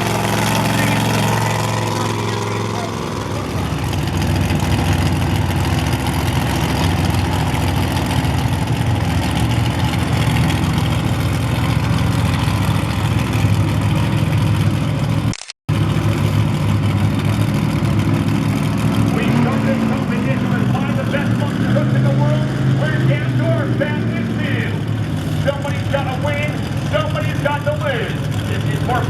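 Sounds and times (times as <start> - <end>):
large vehicle engine running: 0.0 - 29.0.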